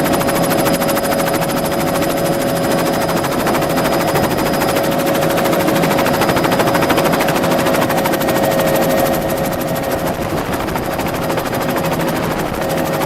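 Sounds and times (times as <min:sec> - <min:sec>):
helicopter rotor blades chopping: 0:00.0 - 0:13.0.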